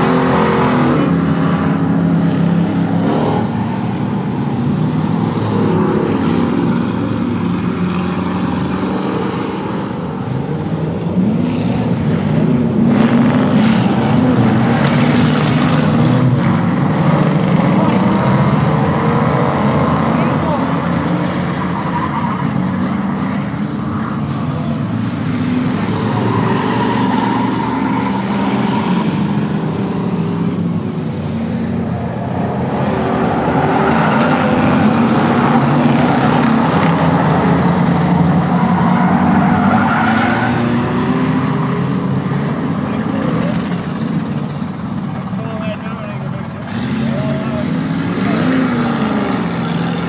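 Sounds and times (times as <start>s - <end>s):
racing car engines revving: 0.0s - 50.0s.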